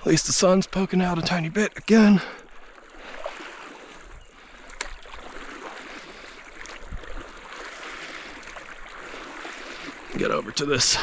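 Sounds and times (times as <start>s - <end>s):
river water rippling and splashing: 0.0s - 11.0s.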